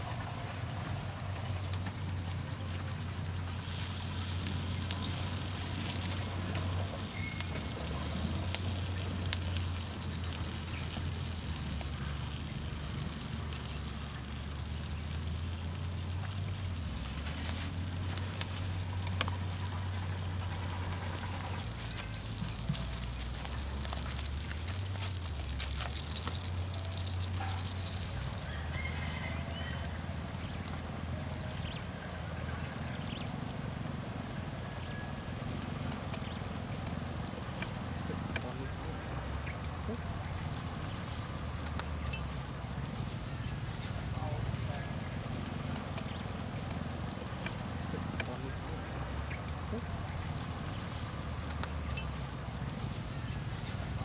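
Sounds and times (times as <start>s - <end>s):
fish roe sizzling on hot stone: 2.0s - 54.0s.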